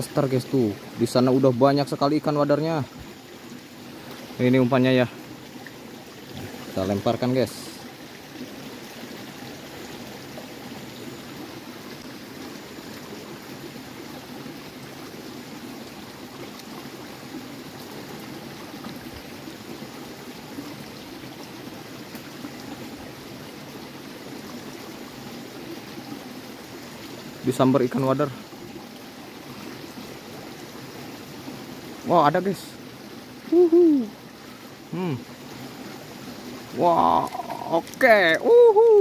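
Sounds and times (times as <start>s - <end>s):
stream water trickling: 0.0s - 39.0s.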